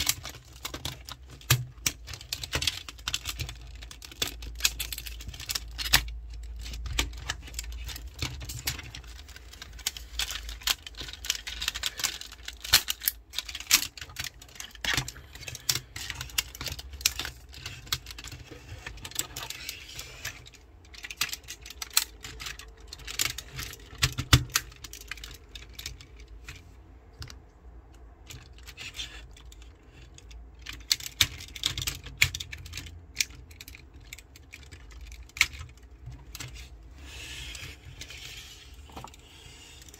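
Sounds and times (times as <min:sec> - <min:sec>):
plastic toy parts clicking: 0:00.0 - 0:39.9.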